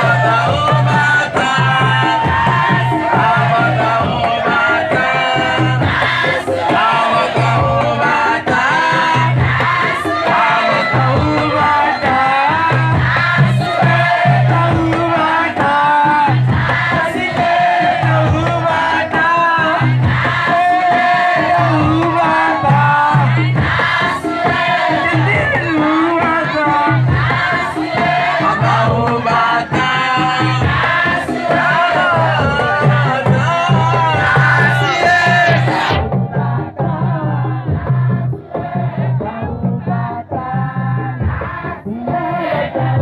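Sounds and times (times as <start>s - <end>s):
group chanting: 0.0s - 43.0s.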